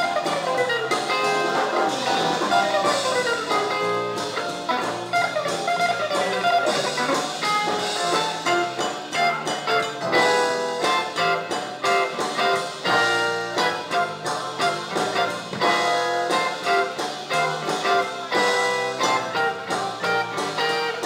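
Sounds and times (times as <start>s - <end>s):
drum kit: 0.0s - 21.0s
electric guitar: 0.0s - 21.0s
synthesizer keyboard: 0.0s - 21.0s.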